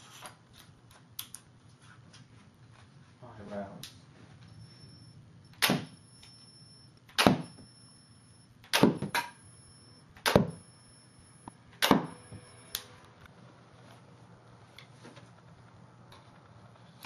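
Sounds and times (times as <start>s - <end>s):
faint high whine: 3.2s - 17.0s.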